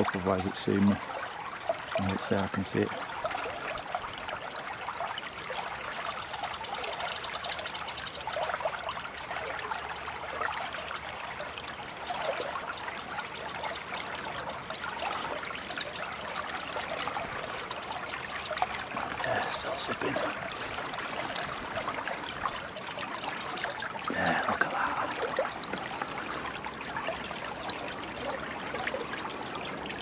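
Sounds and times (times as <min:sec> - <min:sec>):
stream babbling over stones: 0:00.0 - 0:30.0.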